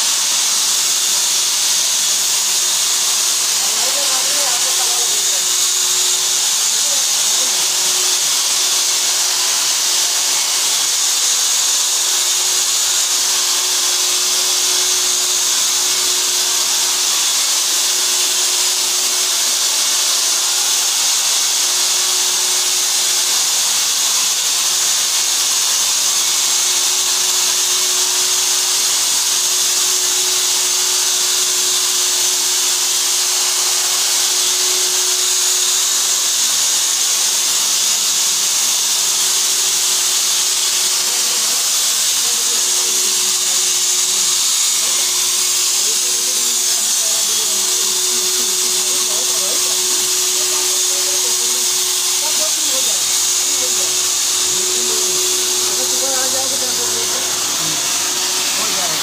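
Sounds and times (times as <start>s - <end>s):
fogger motor hissing: 0.0s - 59.0s.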